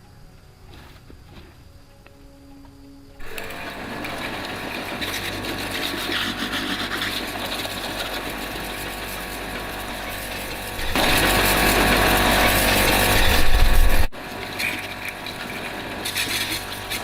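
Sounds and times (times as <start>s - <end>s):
small electric motor chattering: 3.2s - 17.0s.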